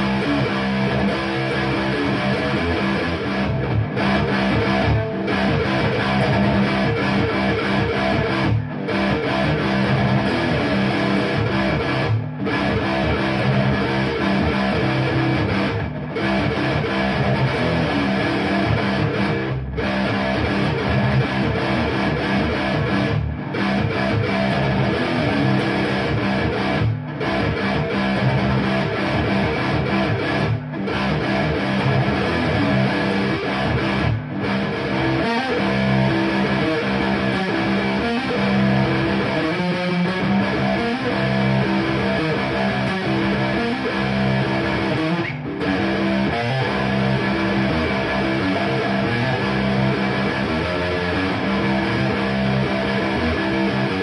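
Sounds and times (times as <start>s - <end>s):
electric guitar riff: 0.0s - 54.0s.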